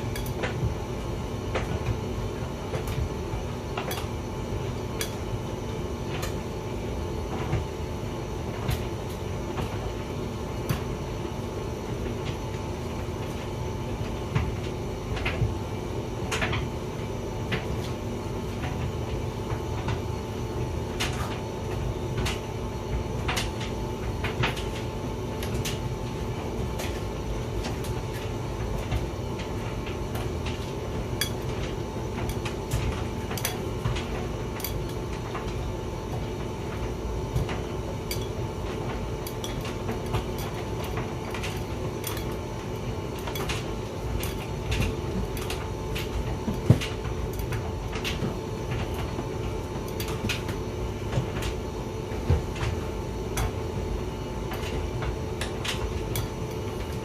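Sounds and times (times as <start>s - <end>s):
tumble dryer rumbling: 0.0s - 57.0s.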